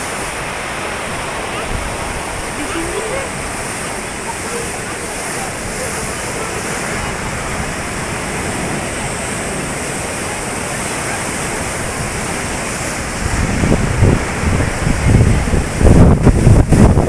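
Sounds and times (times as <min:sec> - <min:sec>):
sea waves surging on shore: 0:00.0 - 0:17.0
wind buffeting microphone: 0:00.0 - 0:17.0.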